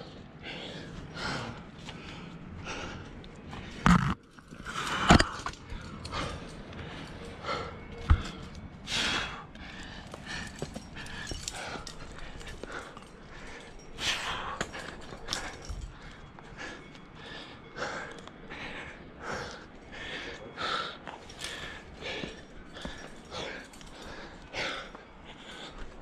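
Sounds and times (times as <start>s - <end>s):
person breathing hard: 0.0s - 26.0s
sharp huffing breaths: 0.0s - 26.0s.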